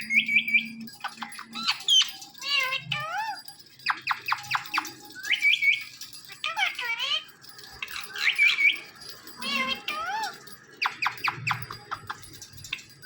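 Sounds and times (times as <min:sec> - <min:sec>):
parrot chirping and squawking: 0:00.0 - 0:12.9.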